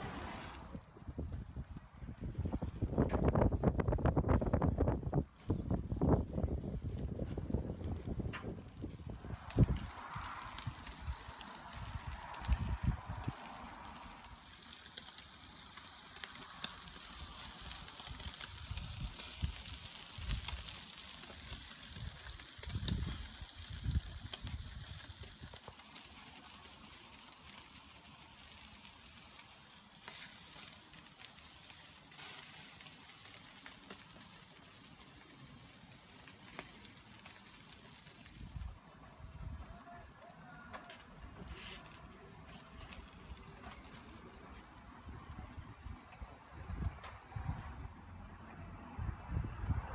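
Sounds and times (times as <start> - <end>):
meat sizzling on a grill: 0.0 - 0.8, 2.9 - 47.0.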